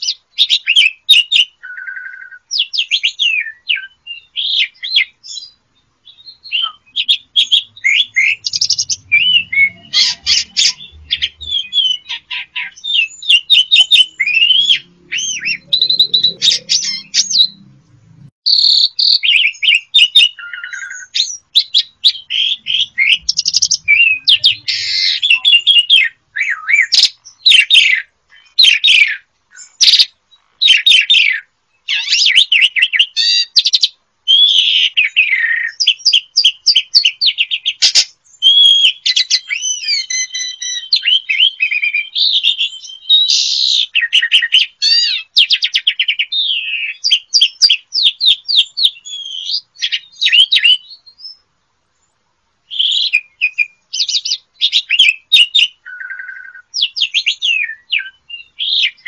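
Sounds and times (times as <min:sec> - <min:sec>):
starling singing: 0:00.0 - 0:51.4, 0:52.7 - 0:59.0.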